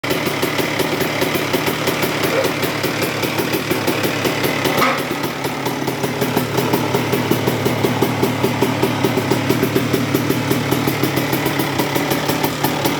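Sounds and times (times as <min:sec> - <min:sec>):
two-stroke engine idling: 0:00.0 - 0:12.9.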